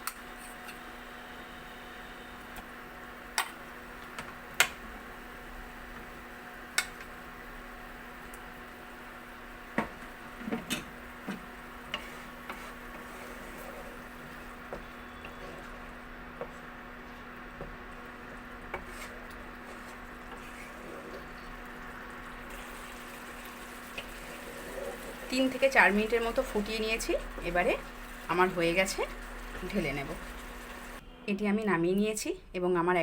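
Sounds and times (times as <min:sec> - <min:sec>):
fish simmering in gravy: 0:00.2 - 0:31.0.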